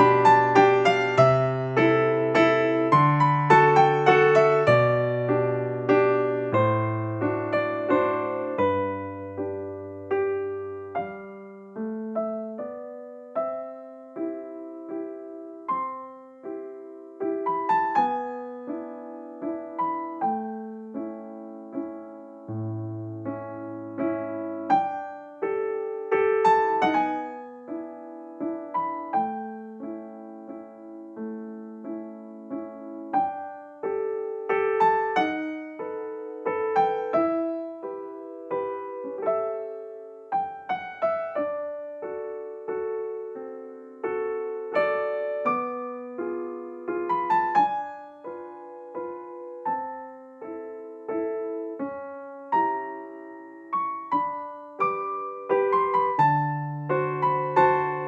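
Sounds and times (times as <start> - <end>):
gentle piano melody: 0.0 - 58.0.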